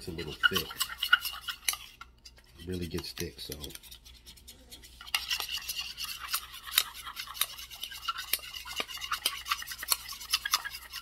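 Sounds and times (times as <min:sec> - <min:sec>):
spoon scraping metal cup: 0:00.0 - 0:11.0.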